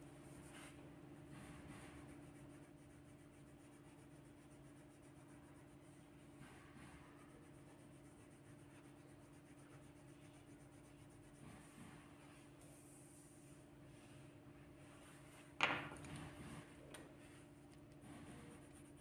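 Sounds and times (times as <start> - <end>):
low electrical hum: 0.0 - 19.0
pencil scratching on paper: 0.2 - 13.4, 16.1 - 19.0.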